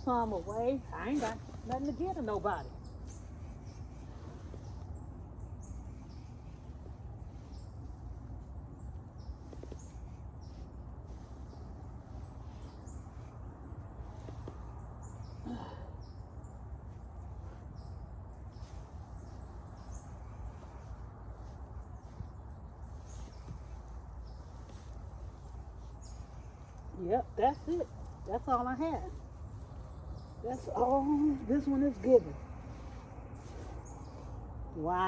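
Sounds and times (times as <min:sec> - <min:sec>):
low outdoor rumble: 0:00.0 - 0:35.0
small birds chirping: 0:00.0 - 0:35.0.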